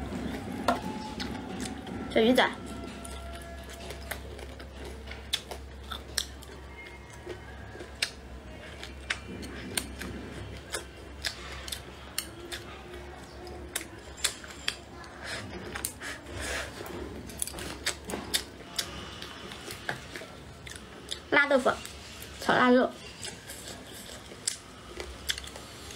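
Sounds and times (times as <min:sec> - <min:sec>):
low steady hum: 0:00.0 - 0:25.9
person biting and chewing peppers: 0:02.8 - 0:22.4, 0:23.0 - 0:25.9.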